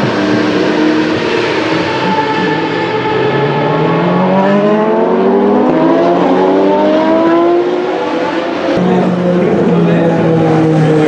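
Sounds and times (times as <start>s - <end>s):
racing car engine accelerating: 0.0s - 11.0s.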